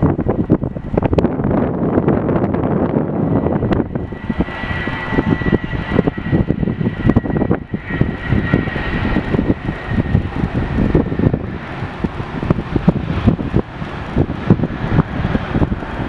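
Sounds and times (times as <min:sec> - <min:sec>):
jet engines whining: 0:00.0 - 0:16.0
wind buffeting microphone: 0:00.0 - 0:16.0.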